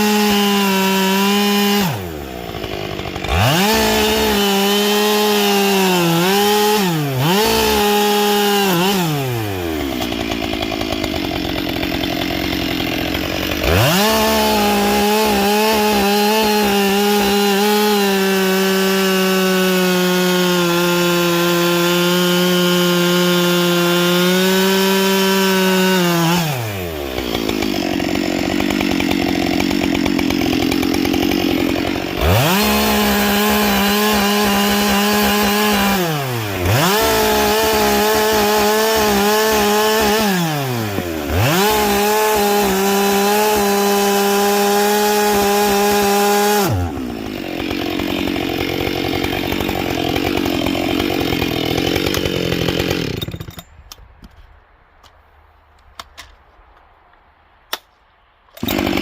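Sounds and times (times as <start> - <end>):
chainsaw cutting wood: 0.0 - 54.5, 58.6 - 59.0.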